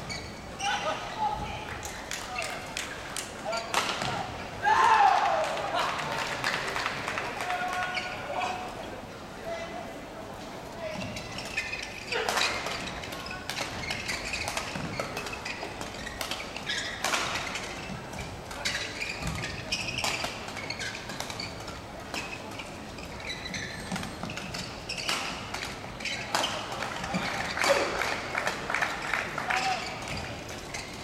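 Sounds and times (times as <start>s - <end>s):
players moving on court: 0.0s - 31.0s.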